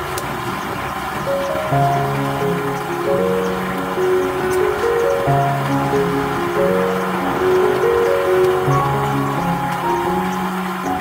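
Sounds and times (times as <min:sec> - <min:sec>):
instrumental music with held notes: 0:01.2 - 0:11.0.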